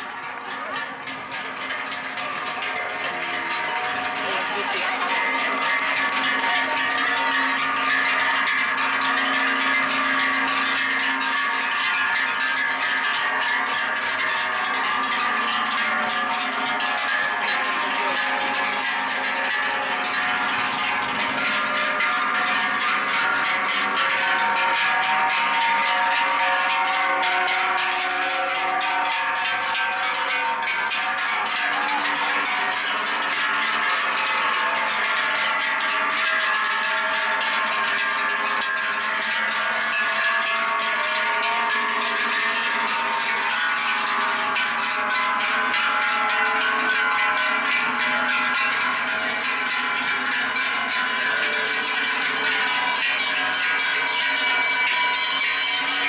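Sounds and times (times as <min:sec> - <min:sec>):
cowbells clanging: 0:00.0 - 0:56.0.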